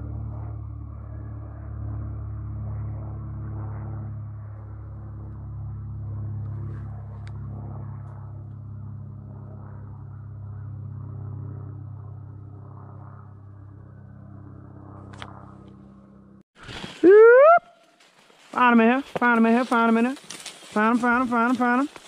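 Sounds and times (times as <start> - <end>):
low droning hum: 0.0 - 22.0.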